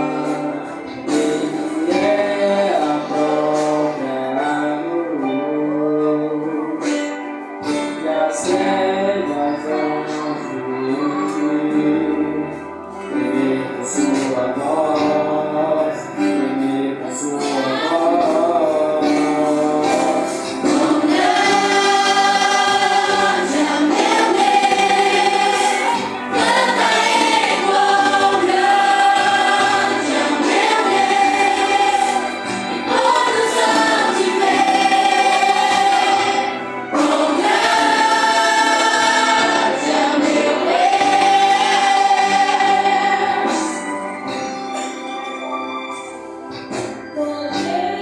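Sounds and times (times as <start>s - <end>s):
group singing worship song: 0.0s - 6.9s, 8.0s - 44.0s.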